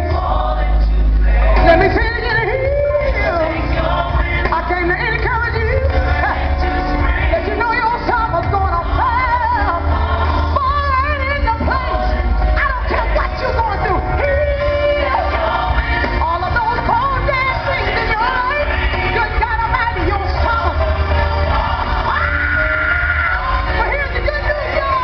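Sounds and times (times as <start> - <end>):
band with heavy bass: 0.0 - 25.0
woman singing: 1.6 - 21.3, 22.1 - 25.0.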